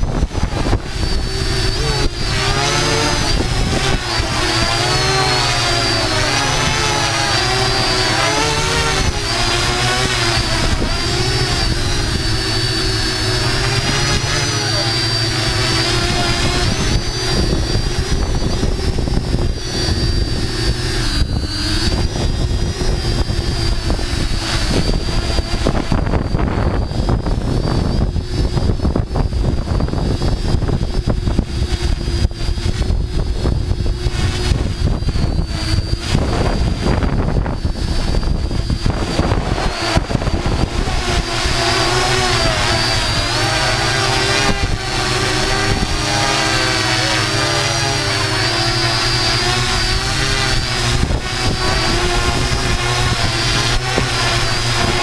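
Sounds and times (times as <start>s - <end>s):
rotor wash buffeting: 0.0s - 29.6s, 30.2s - 55.0s
drone motors whirring: 0.0s - 55.0s.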